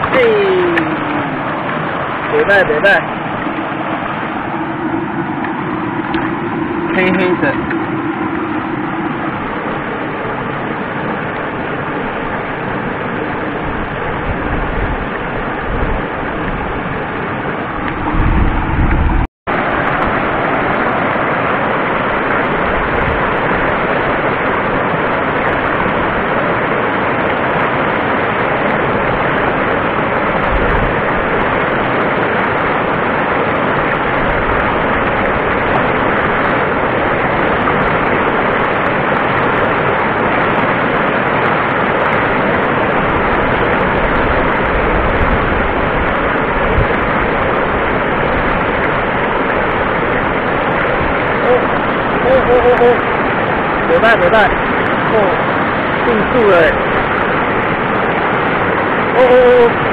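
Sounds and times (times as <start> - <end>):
stream rushing over boulders: 0.0 - 59.9.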